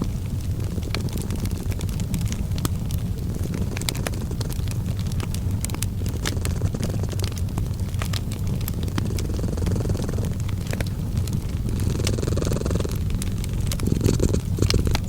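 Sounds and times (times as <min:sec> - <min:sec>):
cat purring: 0:00.0 - 0:15.0
fireplace crackling: 0:00.0 - 0:15.0.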